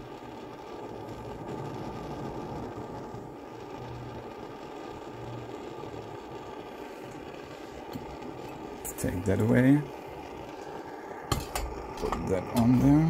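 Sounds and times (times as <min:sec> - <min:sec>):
camping stove burner hissing: 0:00.0 - 0:13.0
low hum: 0:00.0 - 0:13.0.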